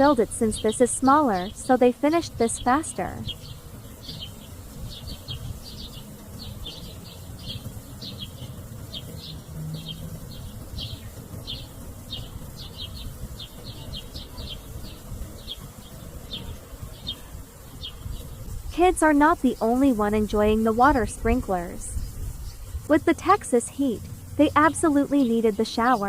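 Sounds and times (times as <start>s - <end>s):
bird chip notes: 0.0s - 18.0s, 22.9s - 26.0s
low wind rumble: 0.0s - 26.0s.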